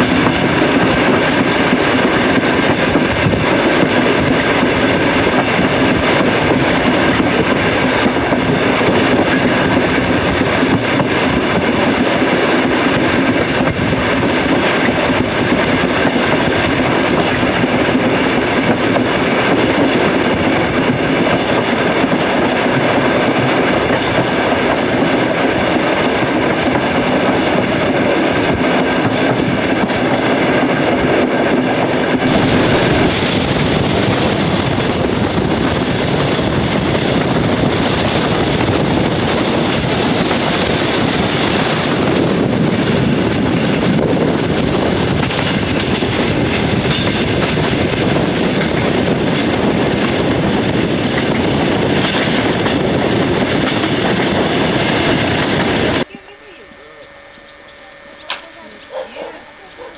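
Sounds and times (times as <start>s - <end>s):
train wheels clacking on rails: 0.0s - 56.1s
train rumble: 0.0s - 59.9s.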